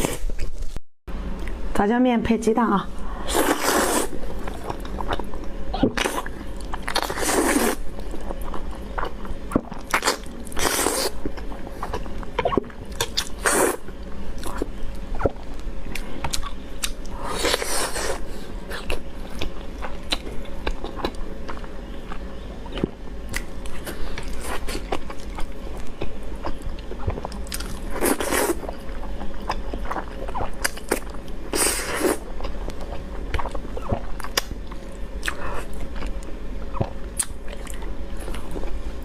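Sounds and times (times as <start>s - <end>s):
person chewing food: 3.4s - 38.8s.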